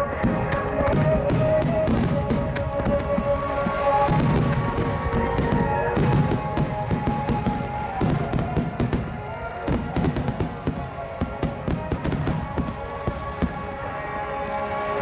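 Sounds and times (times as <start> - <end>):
fireworks booming and crackling: 0.0 - 15.0
loudspeaker music: 0.0 - 15.0.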